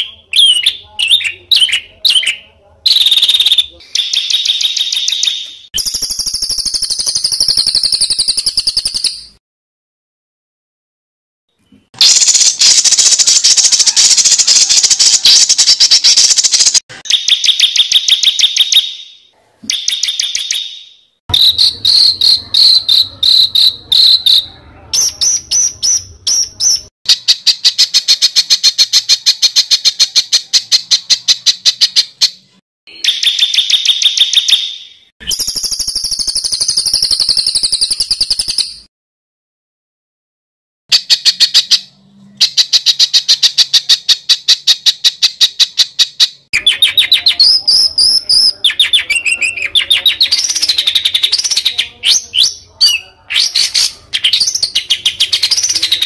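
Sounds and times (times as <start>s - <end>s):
high-pitched bird chirps: 0.0s - 9.4s, 11.6s - 38.9s, 40.9s - 56.0s.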